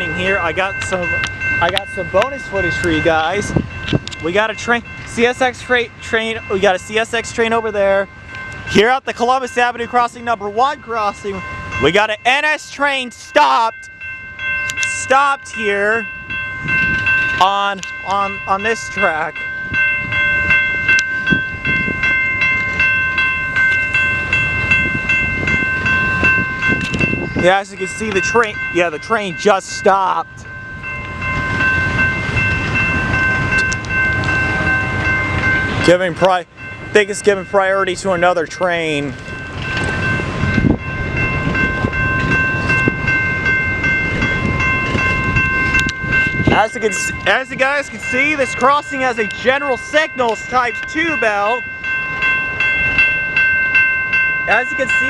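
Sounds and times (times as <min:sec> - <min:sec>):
railroad crossing bell ringing: 0:00.0 - 0:55.0.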